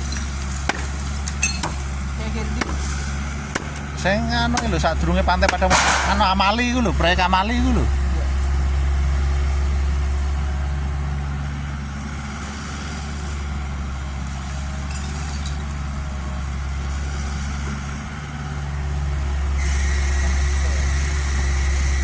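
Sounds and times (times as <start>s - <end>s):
excavator diesel engine humming: 0.0s - 22.0s.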